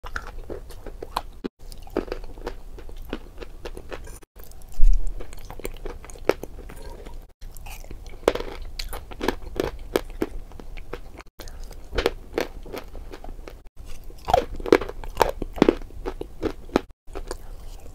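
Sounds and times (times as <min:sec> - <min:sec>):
chewing crunchy food: 0:00.0 - 0:17.9.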